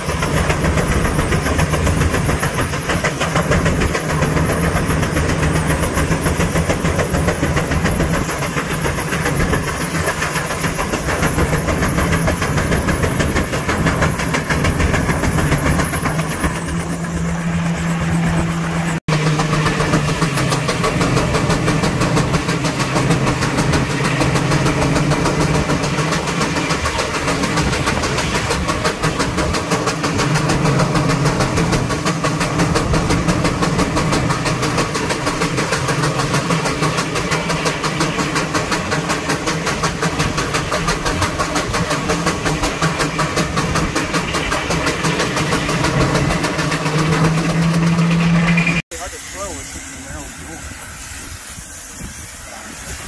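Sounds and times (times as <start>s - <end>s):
steam engine exhaust chuffing: 0.0s - 53.0s.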